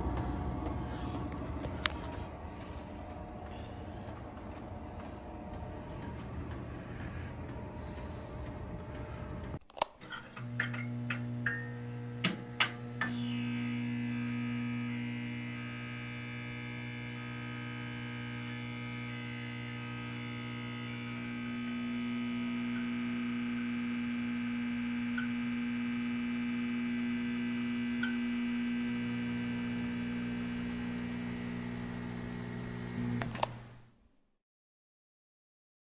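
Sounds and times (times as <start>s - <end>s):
electronic hum: 0.0s - 34.0s.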